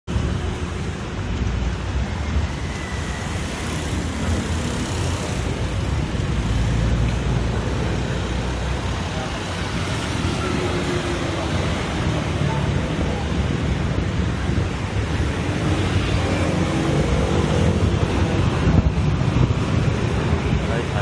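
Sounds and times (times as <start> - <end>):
traffic rumble: 0.1 - 21.0.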